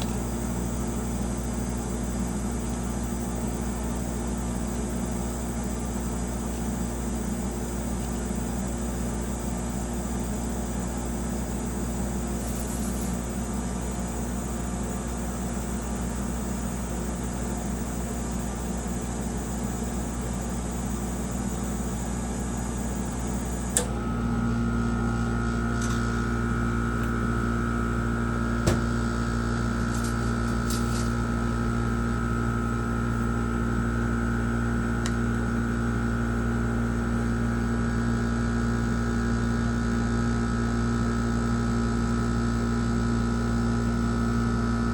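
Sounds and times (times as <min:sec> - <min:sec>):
machine humming: 0:00.0 - 0:38.0
high steady whine: 0:00.0 - 0:44.9.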